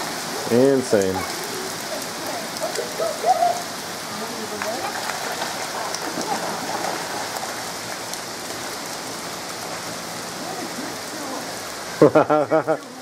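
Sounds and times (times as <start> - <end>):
heavy rain on flooded street: 0.0 - 13.0.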